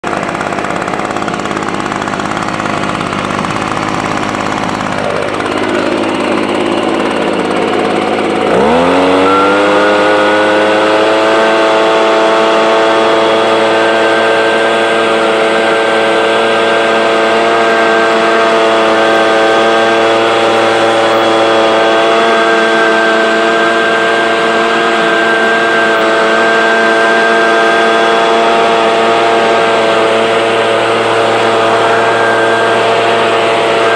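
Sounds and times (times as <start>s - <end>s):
leaf blower engine running: 0.0s - 33.9s.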